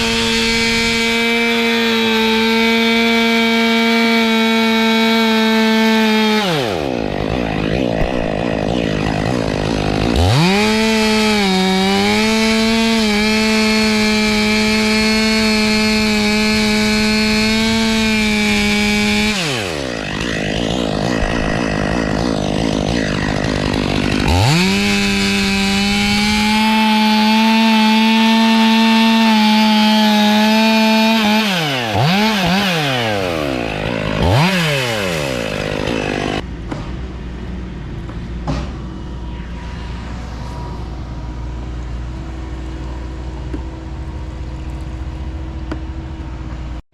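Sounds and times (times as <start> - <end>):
chainsaw cutting and idling: 0.0 - 39.3, 40.0 - 46.8.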